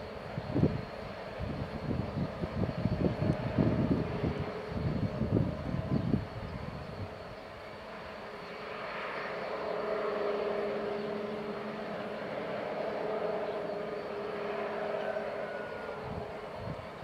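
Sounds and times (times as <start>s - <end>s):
diesel locomotive engines droning: 0.0s - 17.0s.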